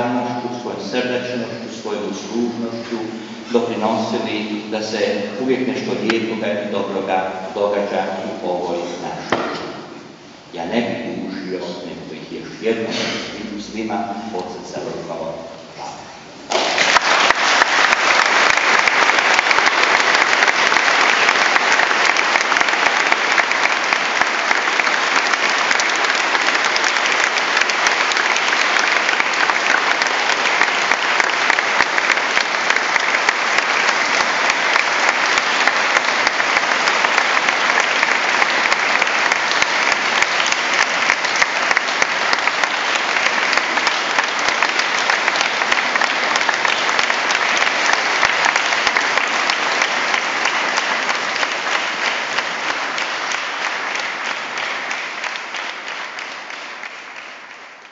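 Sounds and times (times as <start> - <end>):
congregation clapping: 0.0 - 10.0, 16.5 - 57.9.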